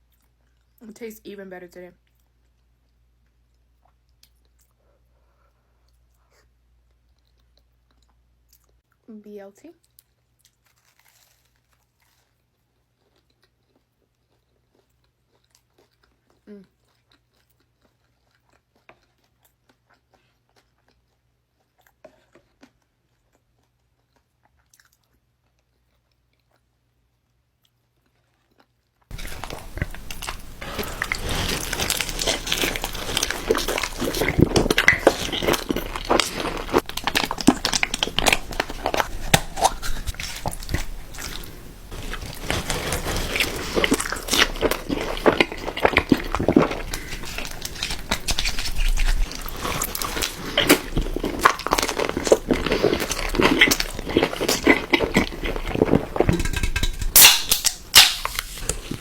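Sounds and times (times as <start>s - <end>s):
crunchy food chewing: 9.9s - 26.7s, 27.6s - 59.0s.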